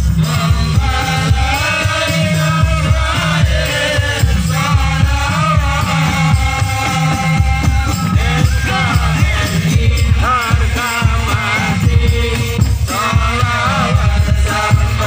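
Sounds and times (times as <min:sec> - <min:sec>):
devotional singing: 0:00.0 - 0:15.0
low regular drum beats: 0:00.0 - 0:15.0.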